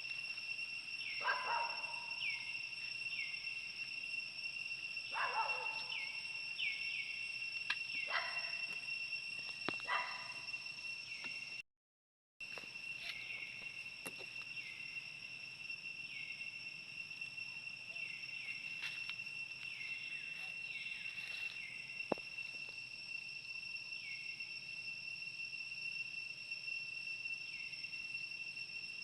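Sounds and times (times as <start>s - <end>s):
high-pitched insect drone: 0.0s - 11.6s, 12.4s - 29.0s.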